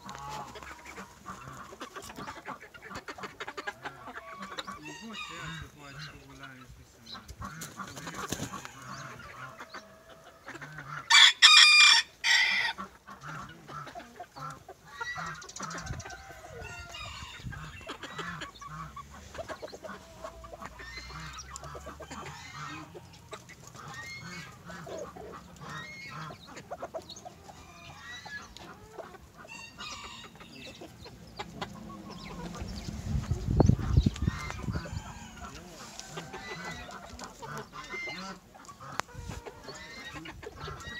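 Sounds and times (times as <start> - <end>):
loud chicken calls: 0.0 - 6.5, 7.2 - 40.9
chickens clucking: 0.0 - 40.9.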